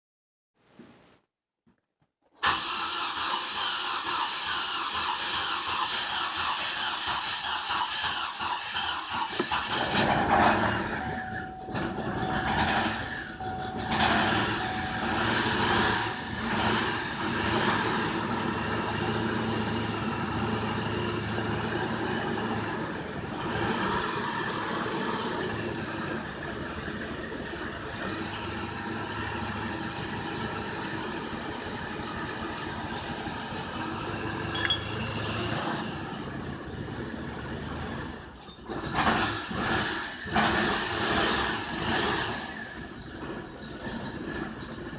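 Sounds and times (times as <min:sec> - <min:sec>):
truck engine idling roughly: 0:02.4 - 0:44.9.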